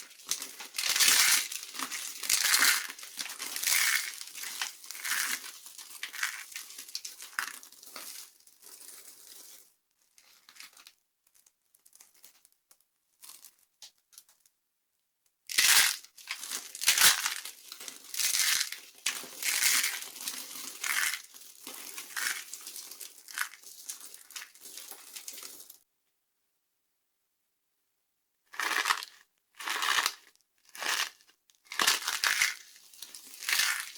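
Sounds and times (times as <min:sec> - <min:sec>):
dry soap crunching: 0:00.0 - 0:12.6, 0:15.5 - 0:25.8, 0:28.5 - 0:33.9.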